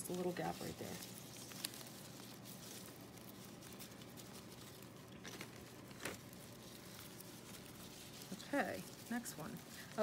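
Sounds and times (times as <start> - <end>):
leaves rustling: 0.0 - 10.0.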